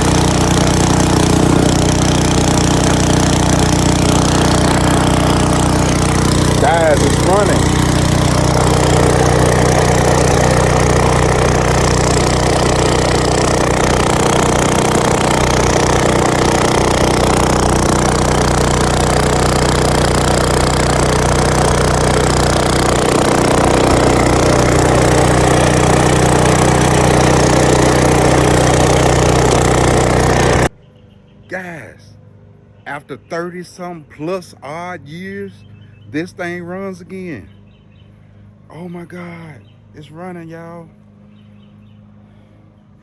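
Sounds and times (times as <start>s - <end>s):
small gasoline engine running: 0.0s - 30.8s, 35.2s - 43.0s.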